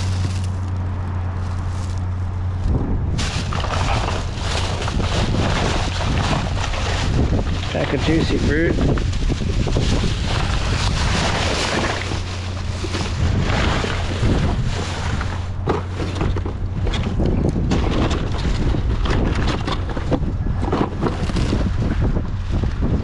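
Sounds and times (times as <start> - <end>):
knocks and rustles of handling: 0.0 - 21.9
steady low hum: 0.0 - 23.0
wind buffeting microphone: 0.0 - 23.0.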